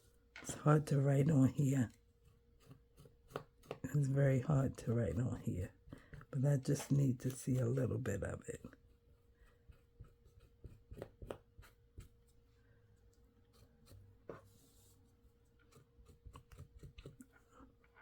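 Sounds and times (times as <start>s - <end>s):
pen scratching on surface: 0.4s - 12.4s, 13.2s - 17.5s.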